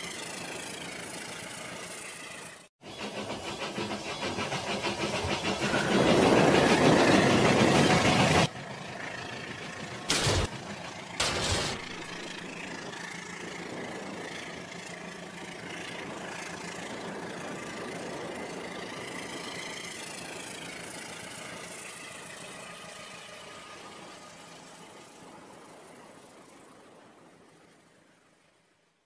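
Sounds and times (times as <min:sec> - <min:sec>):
toy trains running on track: 0:00.0 - 0:27.9.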